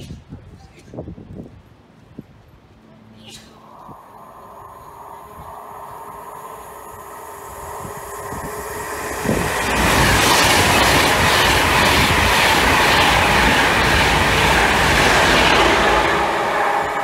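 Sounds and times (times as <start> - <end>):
electric train passing at speed: 2.7 - 17.0.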